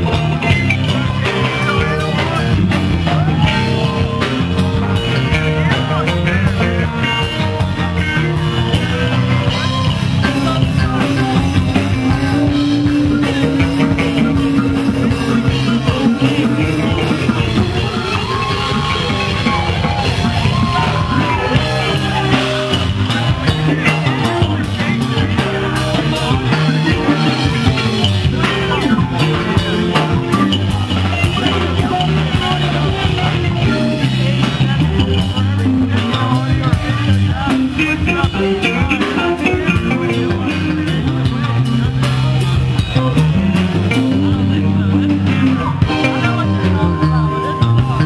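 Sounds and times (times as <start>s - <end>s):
live band playing: 0.0s - 48.0s.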